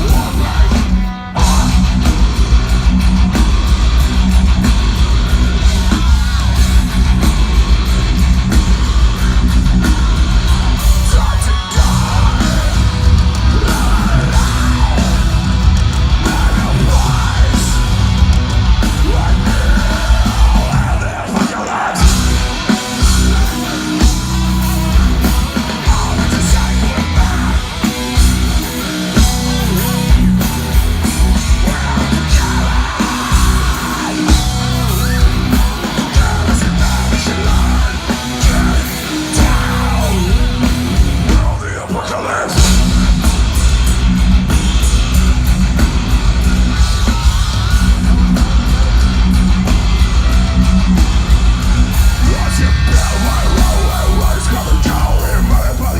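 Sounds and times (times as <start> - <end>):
heavy metal band playing: 0.0 - 55.9
yelled vocals: 0.0 - 55.9.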